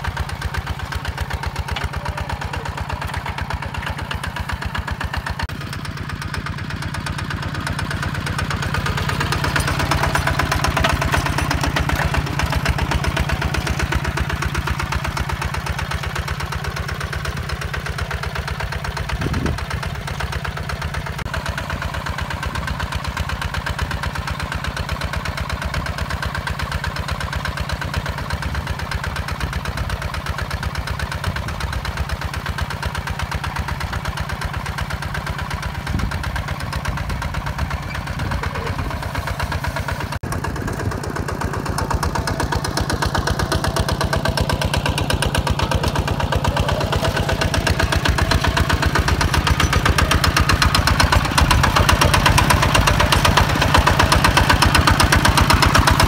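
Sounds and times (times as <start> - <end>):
diesel tractor engine chugging: 0.0 - 56.0.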